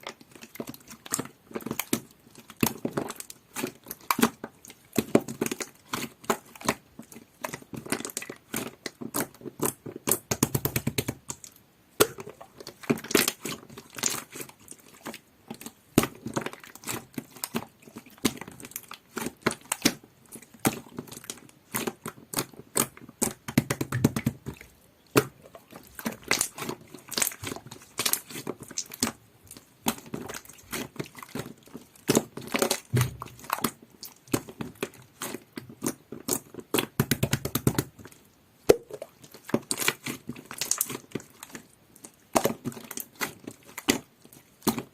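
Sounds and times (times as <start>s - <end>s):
slime squished by hand: 0.1s - 44.9s.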